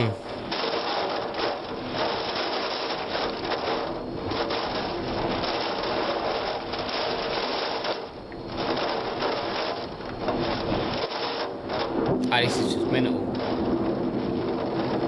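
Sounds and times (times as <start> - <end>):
heavy rain drumming: 0.0 - 15.0.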